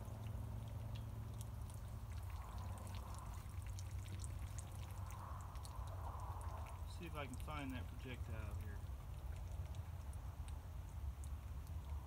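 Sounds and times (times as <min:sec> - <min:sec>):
water pouring from plastic jugs: 0:00.0 - 0:10.0
steady low rumble: 0:00.0 - 0:12.0.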